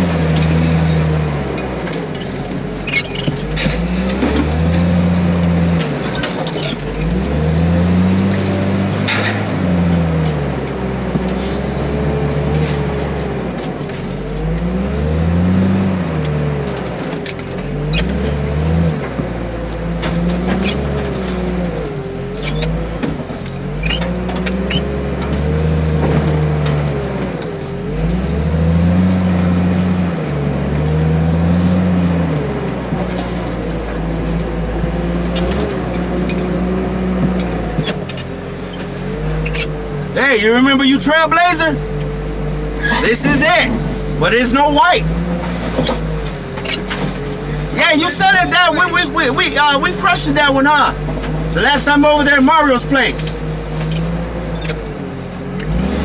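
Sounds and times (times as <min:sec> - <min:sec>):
loader engine revving: 0:00.0 - 0:56.0.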